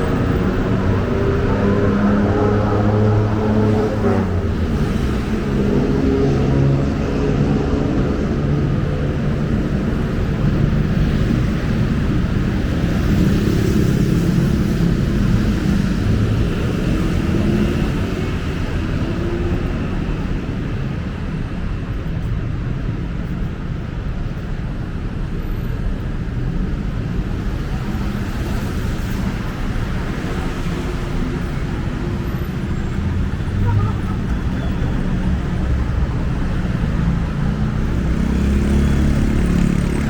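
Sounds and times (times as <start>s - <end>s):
vehicles passing close by: 0.0s - 40.0s.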